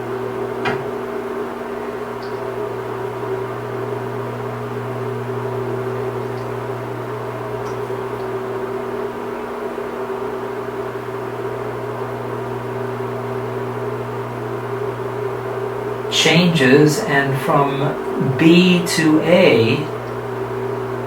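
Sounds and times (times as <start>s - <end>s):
steady hum of held tones: 0.0s - 21.0s.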